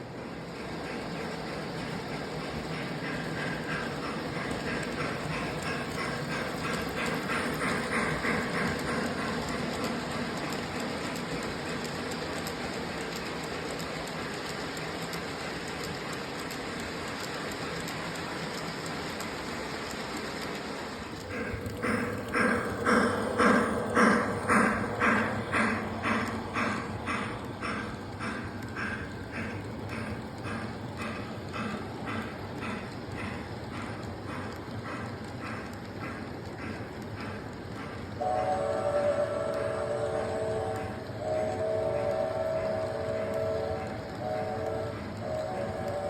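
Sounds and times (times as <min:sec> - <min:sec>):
model train running on track: 0:00.0 - 0:46.0
rhythmic pulses: 0:00.2 - 0:15.5, 0:18.2 - 0:46.0.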